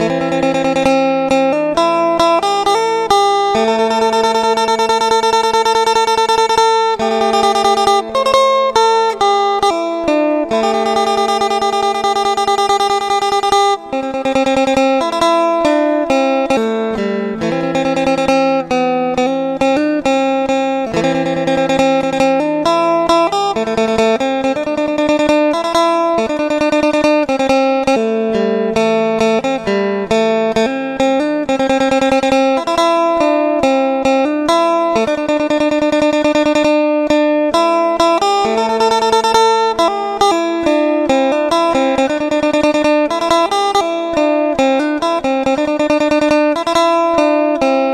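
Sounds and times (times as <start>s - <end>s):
plucked lute melody: 0.0s - 47.9s.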